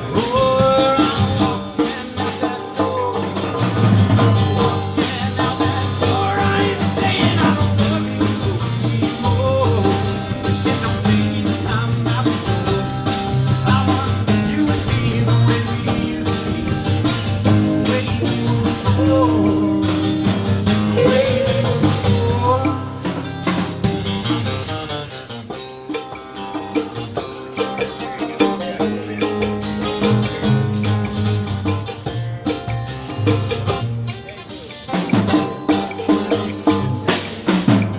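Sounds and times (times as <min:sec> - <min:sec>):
blues band playing: 0:00.0 - 0:37.9.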